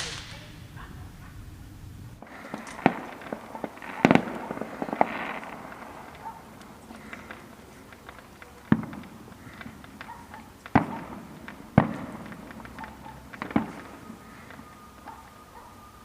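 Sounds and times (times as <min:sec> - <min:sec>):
fireworks bangs echoing: 0:00.0 - 0:16.0
fireworks crackles and pops: 0:00.0 - 0:16.0.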